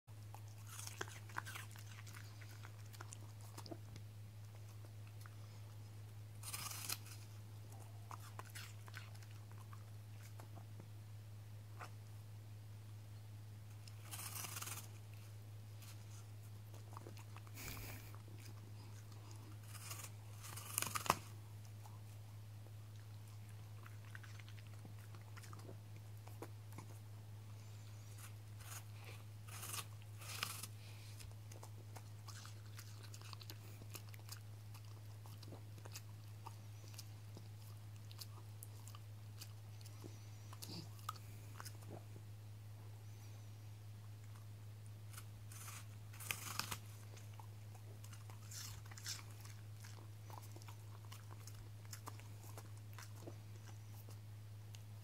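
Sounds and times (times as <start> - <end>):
steady low hum: 0.1 - 55.0
dog crunching apple: 0.2 - 10.8, 13.7 - 42.1, 44.2 - 55.0.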